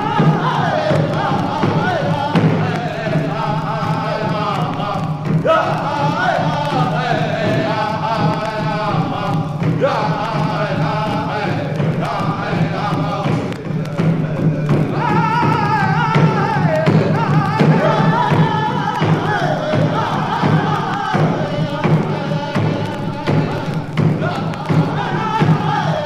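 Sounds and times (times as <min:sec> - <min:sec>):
thudding drum beat: 0:00.0 - 0:26.0
voices singing: 0:00.0 - 0:26.0.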